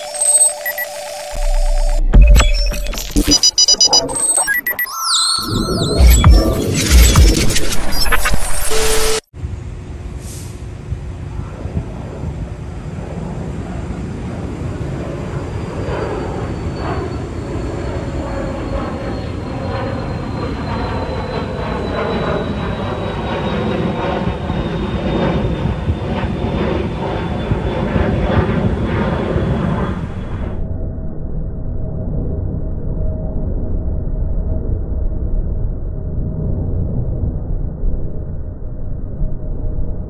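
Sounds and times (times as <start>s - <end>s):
jet engine with high whine: 0.0s - 2.2s, 6.9s - 40.0s.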